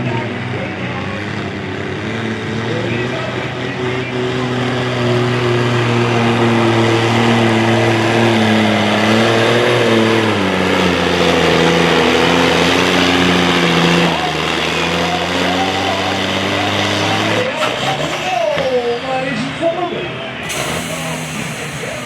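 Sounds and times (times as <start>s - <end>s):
truck engine running hard: 0.0s - 22.0s.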